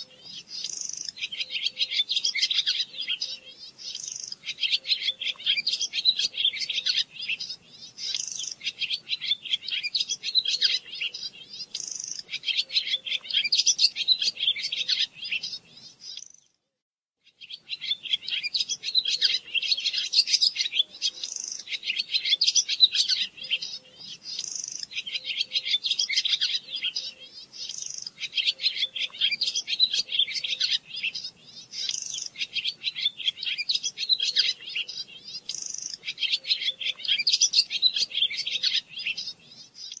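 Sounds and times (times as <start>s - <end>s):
songbird twittering: 0.0s - 16.6s, 17.3s - 40.0s.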